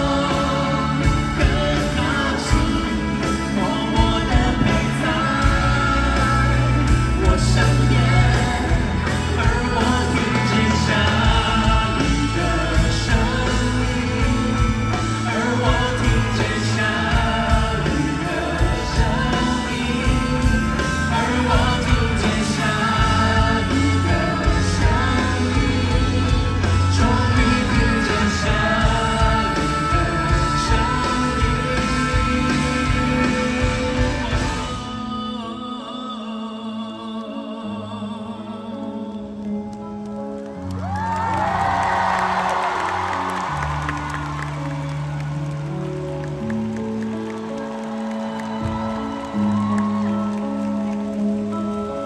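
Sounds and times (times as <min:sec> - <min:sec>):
pop song with drums and singing: 0:00.0 - 0:39.6, 0:40.8 - 0:45.0.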